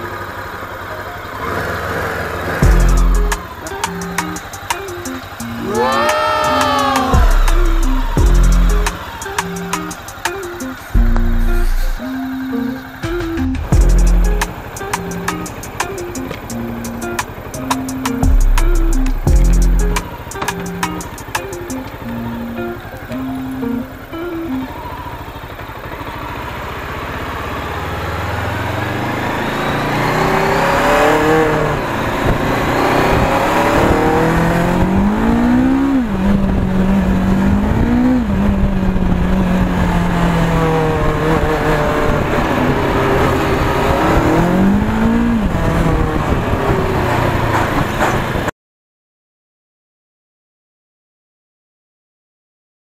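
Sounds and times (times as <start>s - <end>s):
motorcycle engine revving: 0.0s - 48.4s.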